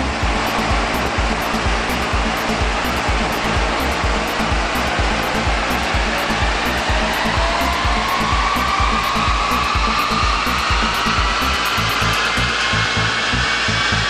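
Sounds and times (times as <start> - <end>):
background music with thumping beat: 0.0 - 14.0
engine whine climbing in pitch: 0.0 - 14.0.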